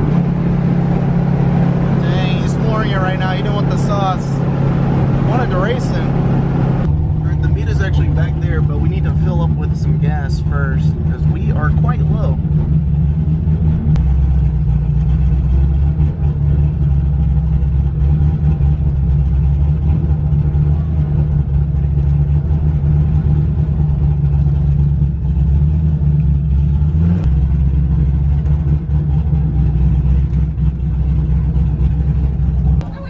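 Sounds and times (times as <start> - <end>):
car engine rumbling inside cabin: 0.0 - 33.0.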